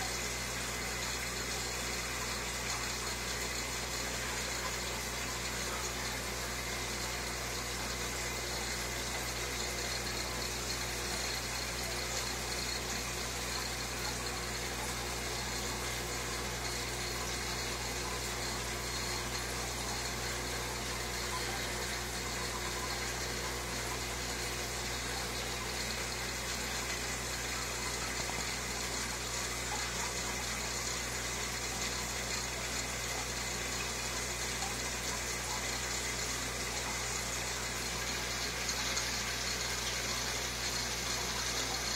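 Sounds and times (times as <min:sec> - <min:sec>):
aquarium pump hum: 0:00.0 - 0:41.9.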